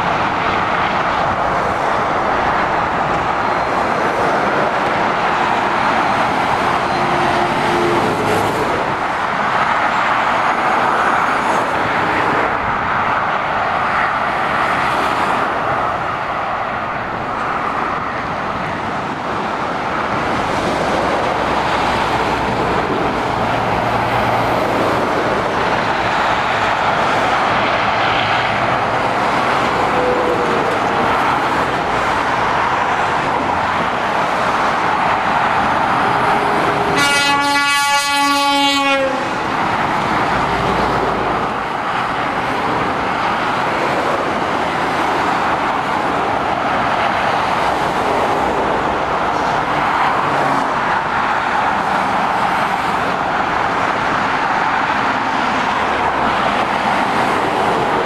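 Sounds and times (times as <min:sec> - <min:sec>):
motorway traffic passing: 0:00.0 - 0:58.0.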